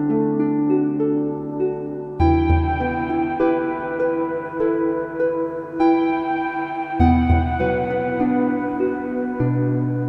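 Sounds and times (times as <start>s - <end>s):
gentle new-age music: 0.0s - 10.0s.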